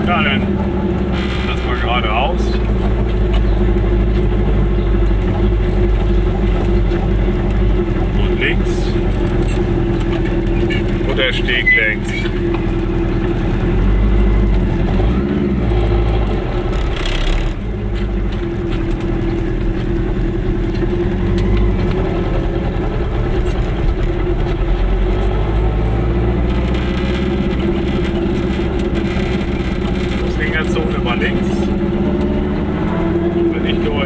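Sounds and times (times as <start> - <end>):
two-stroke car engine running: 0.0 - 34.0.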